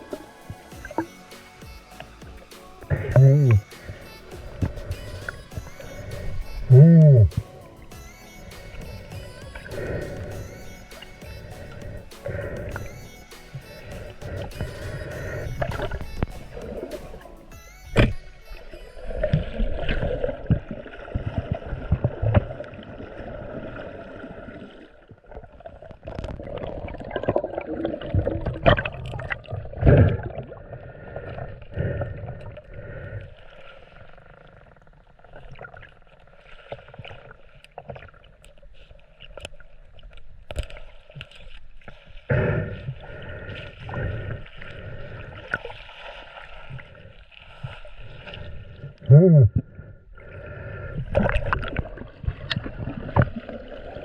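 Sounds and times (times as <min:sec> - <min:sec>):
muffled water gurgling and sloshing: 0:00.0 - 0:54.0.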